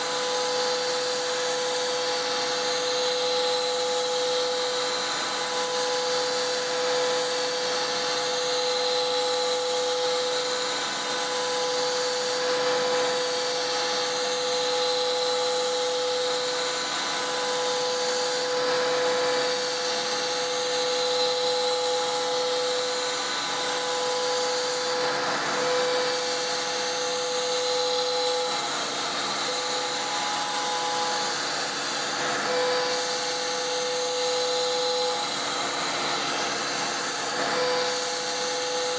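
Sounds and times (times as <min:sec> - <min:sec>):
cnc router milling whine: 0:00.0 - 0:38.9.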